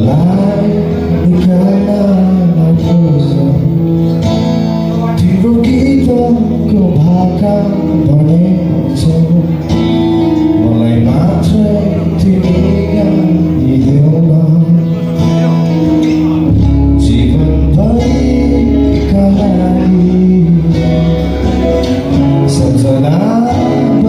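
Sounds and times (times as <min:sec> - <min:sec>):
man singing: 0:00.0 - 0:24.0
strummed acoustic guitar: 0:00.0 - 0:24.0.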